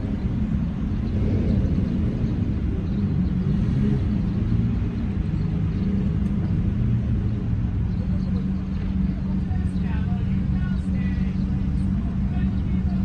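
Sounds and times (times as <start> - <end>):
car engine idling: 1.9 - 13.0.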